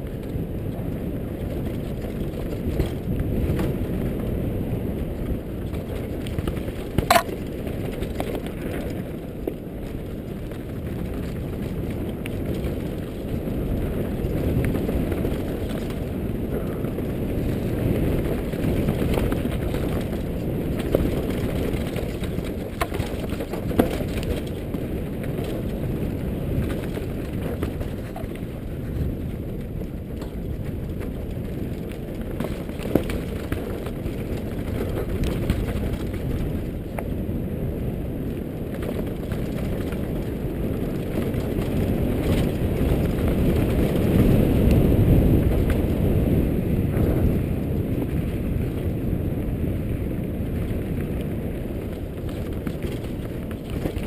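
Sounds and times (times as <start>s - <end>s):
bike rattling: 0.0s - 54.0s
wind and tyres rumbling: 0.0s - 54.0s.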